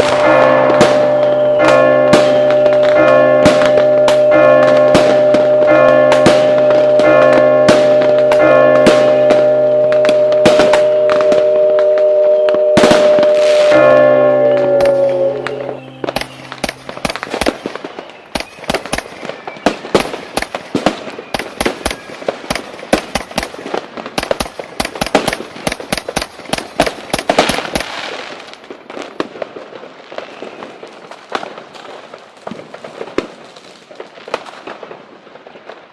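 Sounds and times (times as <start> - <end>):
fireworks cracks and bangs: 0.0 - 35.9.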